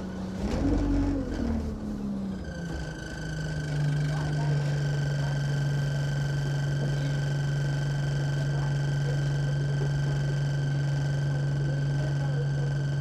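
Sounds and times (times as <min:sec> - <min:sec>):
bus engine low hum: 0:00.0 - 0:13.0.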